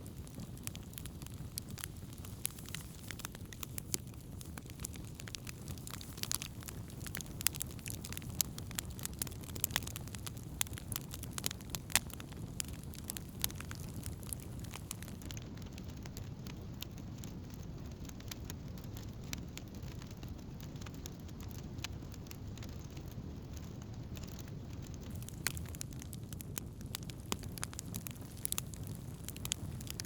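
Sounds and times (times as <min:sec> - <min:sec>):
burning wood crackling and popping: 0:00.0 - 0:30.0
low rumble of flames: 0:00.0 - 0:30.0.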